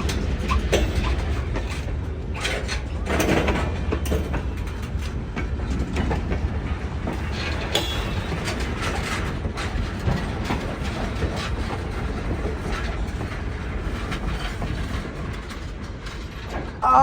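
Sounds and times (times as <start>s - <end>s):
train cars rumbling past: 0.0s - 17.0s
wheels clanking on rails: 0.0s - 17.0s.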